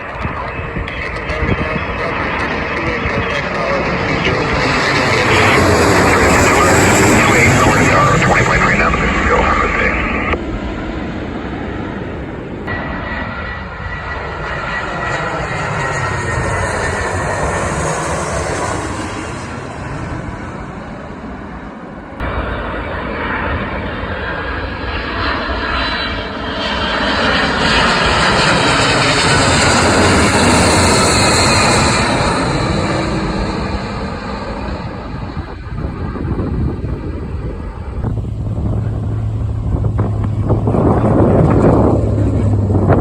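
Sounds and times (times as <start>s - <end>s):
airplane engines roaring: 0.0s - 43.0s.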